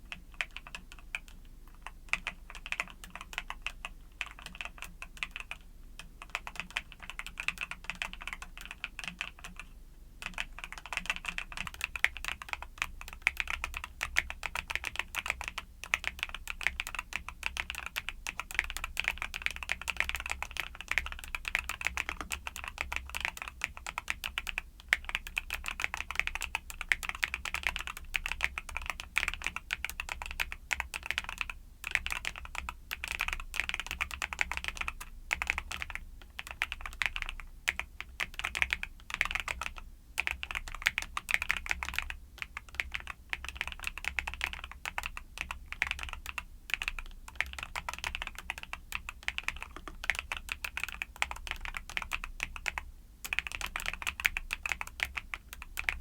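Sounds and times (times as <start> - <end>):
fast mechanical keyboard typing: 0.1 - 56.0.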